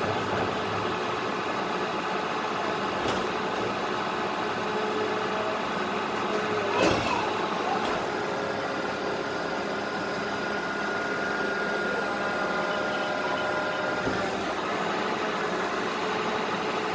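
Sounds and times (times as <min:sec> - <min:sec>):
garbage truck running: 0:00.0 - 0:16.9.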